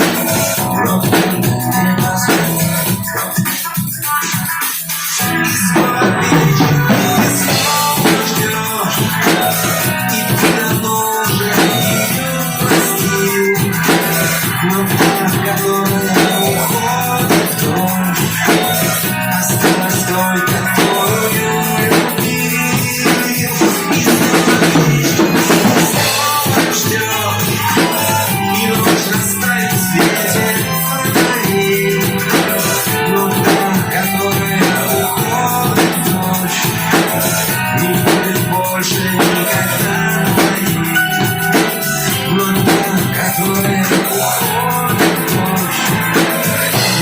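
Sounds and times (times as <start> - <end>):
drum kit steady beat: 0.0 - 47.0
instrumental pop music: 0.0 - 47.0.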